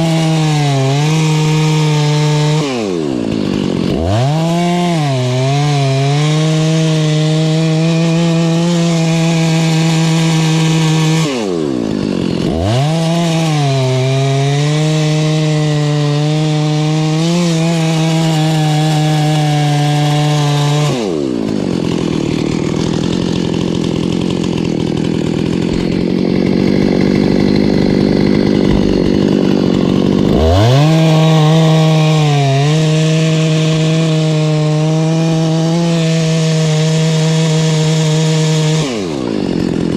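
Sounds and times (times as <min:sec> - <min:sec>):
chainsaw cutting wood: 0:00.0 - 0:39.9
chainsaw idling unevenly: 0:00.0 - 0:39.9.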